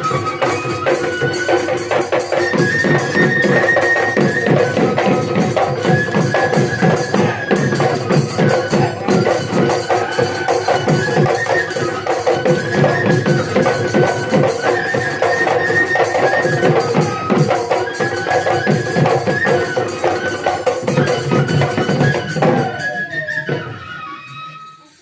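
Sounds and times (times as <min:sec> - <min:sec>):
dhol drums fast rhythm: 0:00.0 - 0:25.0.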